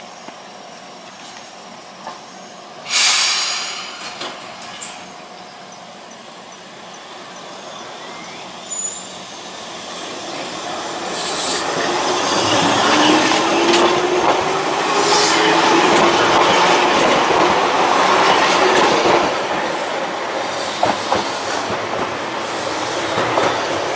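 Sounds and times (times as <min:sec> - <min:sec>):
train running on rails: 0:00.0 - 0:23.9.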